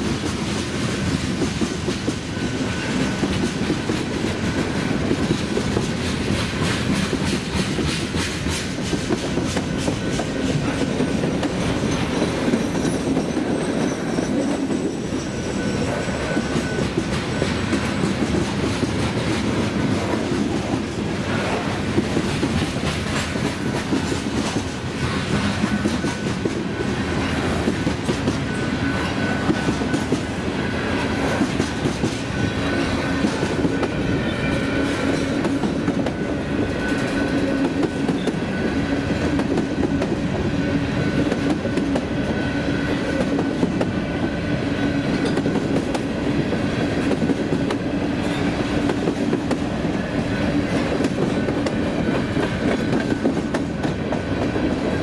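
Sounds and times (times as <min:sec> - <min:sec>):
freight train rumbling past: 0:00.0 - 0:55.0
train wheels clacking over rail joints: 0:00.0 - 0:55.0.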